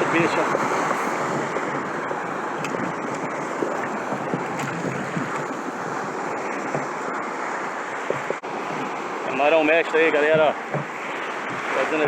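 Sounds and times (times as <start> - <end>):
sea water washing around kayak: 0.0 - 12.0
wind buffeting microphone: 0.0 - 12.0.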